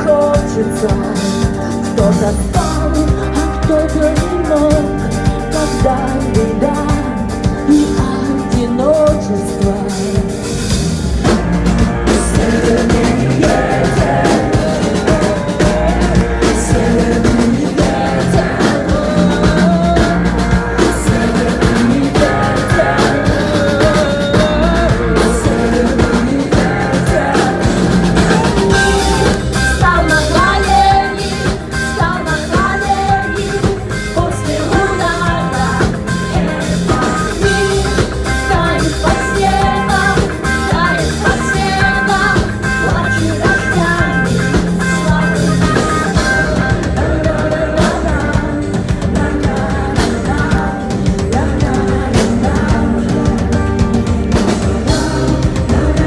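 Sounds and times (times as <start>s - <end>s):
drum kit beat: 0.0s - 56.0s
live rock band playing: 0.0s - 56.0s
person singing: 0.0s - 56.0s.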